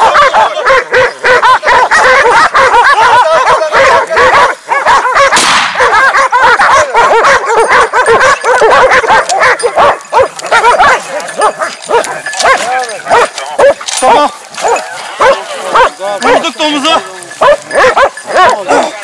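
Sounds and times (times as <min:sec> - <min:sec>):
hounds barking and yelping: 0:00.0 - 0:19.0.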